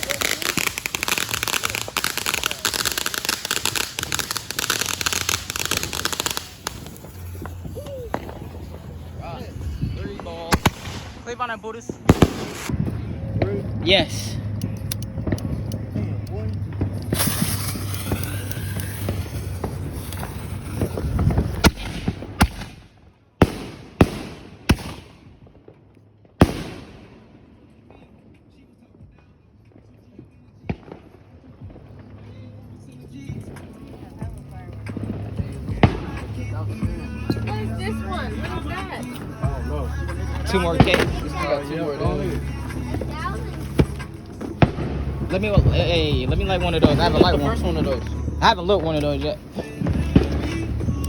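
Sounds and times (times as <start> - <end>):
fireworks crackling: 0.0 - 51.0.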